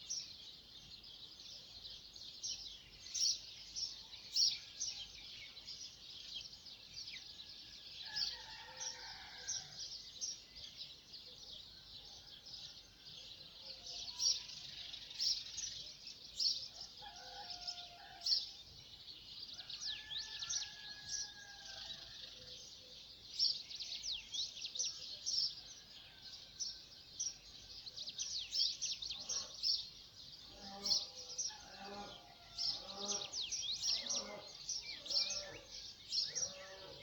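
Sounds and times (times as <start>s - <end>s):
small birds chirping: 0.0s - 7.4s, 8.1s - 37.0s
lower held bird calls: 0.0s - 37.0s.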